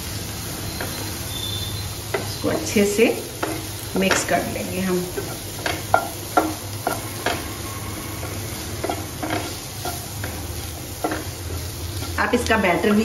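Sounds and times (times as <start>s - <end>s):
food sizzling: 0.0s - 13.0s
spatula scraping frying pan: 0.7s - 13.0s.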